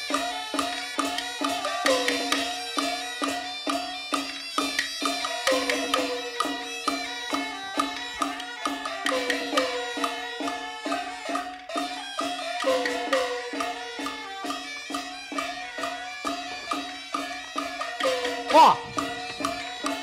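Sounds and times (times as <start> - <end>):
percussion ensemble music: 0.0 - 20.0.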